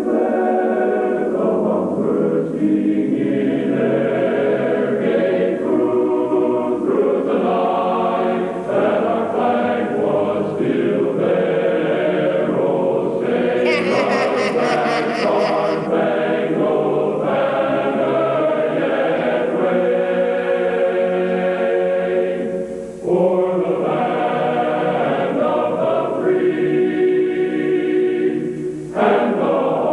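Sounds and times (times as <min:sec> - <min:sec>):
choir singing an anthem: 0:00.0 - 0:29.9.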